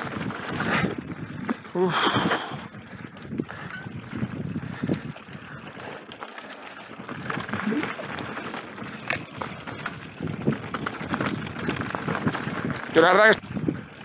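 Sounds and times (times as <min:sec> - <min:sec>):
bike rattling: 0:00.0 - 0:14.0
bike tyres crunching over gravel: 0:00.0 - 0:14.0.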